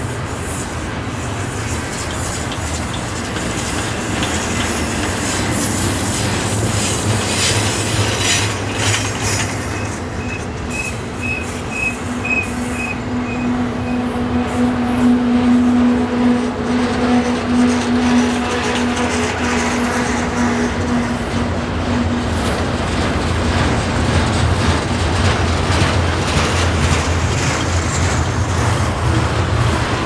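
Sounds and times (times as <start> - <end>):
freight train wheels grinding and squealing: 0.0 - 30.0.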